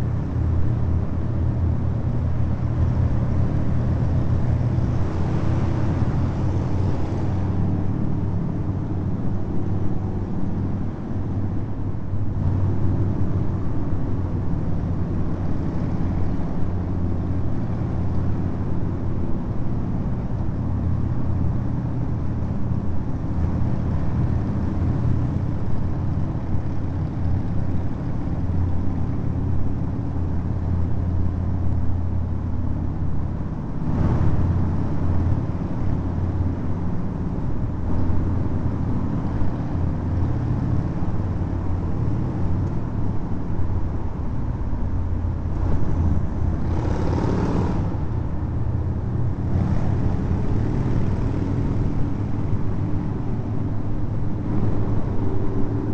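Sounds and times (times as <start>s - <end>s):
traffic in tunnel: 0.0s - 55.9s.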